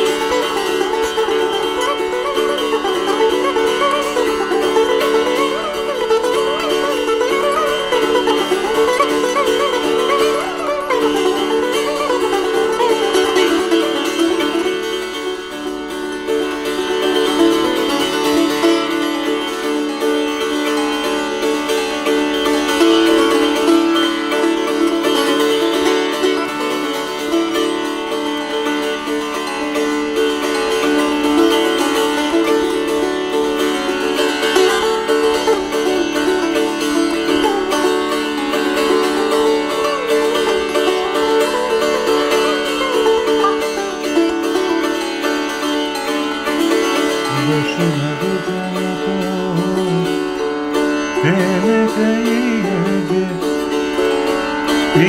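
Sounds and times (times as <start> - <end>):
sitar playing: 0.0 - 55.0.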